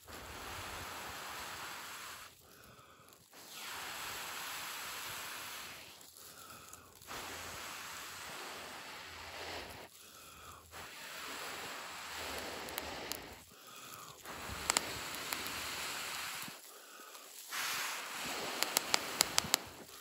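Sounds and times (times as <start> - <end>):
person blowing on ember: 0.0 - 20.0
tinder crackling: 0.0 - 20.0.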